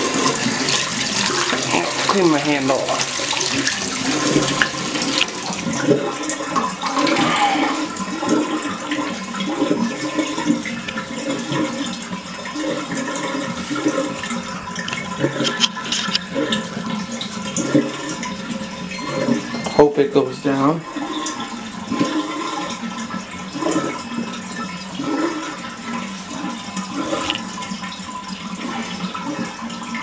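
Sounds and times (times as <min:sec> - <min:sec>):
toilet flushing and gurgling: 0:00.0 - 0:30.0.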